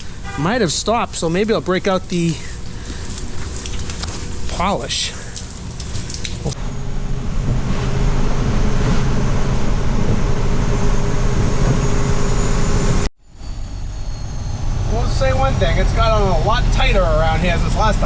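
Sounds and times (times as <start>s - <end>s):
road noise: 0.0s - 18.0s
truck engine drone: 0.0s - 18.0s.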